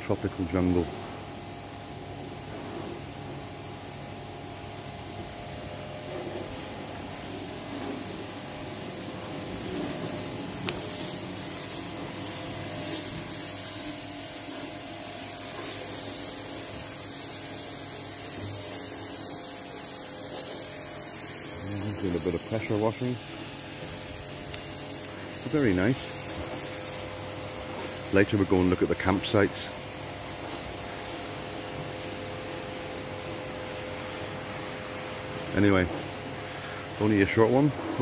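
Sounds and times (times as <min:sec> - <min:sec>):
pressure washer spray hiss: 0:00.0 - 0:38.0.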